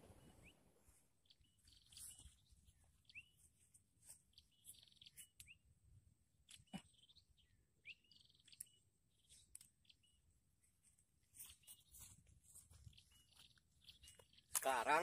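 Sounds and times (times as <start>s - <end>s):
faint bird chirps: 0.0s - 10.4s, 11.2s - 15.0s.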